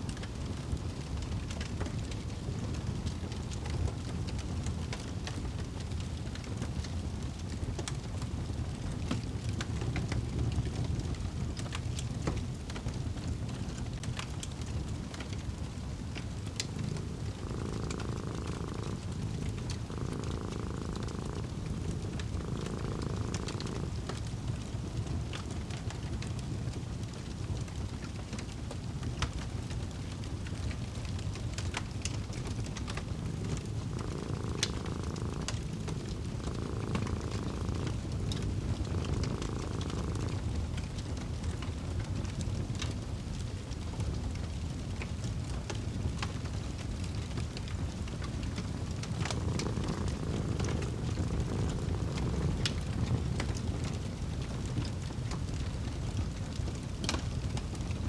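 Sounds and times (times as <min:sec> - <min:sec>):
cat purring: 0:00.0 - 0:58.0
wood fire crackling and popping: 0:00.0 - 0:58.0.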